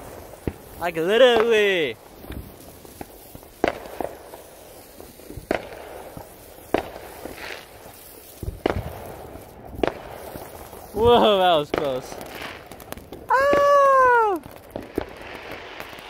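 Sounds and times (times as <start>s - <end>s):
firework popping: 0.0s - 16.0s
sparks fizzing: 0.0s - 16.0s.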